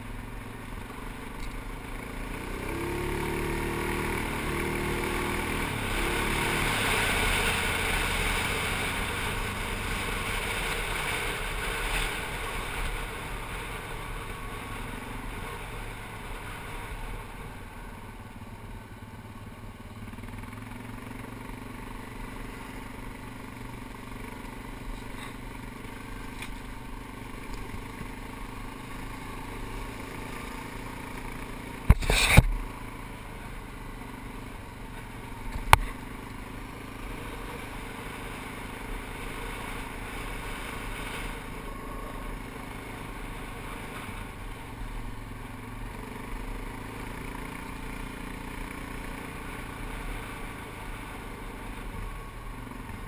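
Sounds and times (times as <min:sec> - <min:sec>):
atv engine running: 0:00.0 - 0:53.0
gravel under tyres: 0:00.0 - 0:53.0.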